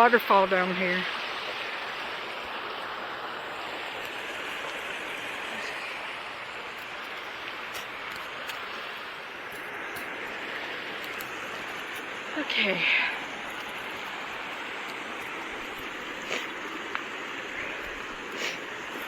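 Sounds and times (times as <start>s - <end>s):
creek water rushing over rock: 0.0s - 19.0s.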